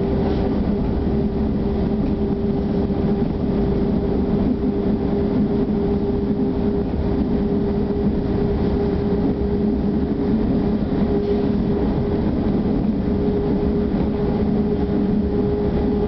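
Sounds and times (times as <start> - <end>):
constant low hum: 0.0 - 16.0
train wheels on rails: 0.0 - 16.0.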